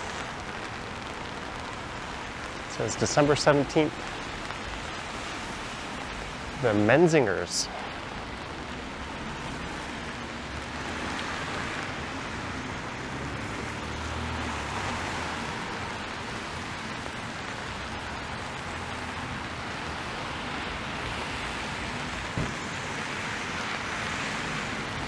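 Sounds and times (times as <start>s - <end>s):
rain hiss: 0.0s - 25.0s
tyres on wet street: 0.0s - 25.0s.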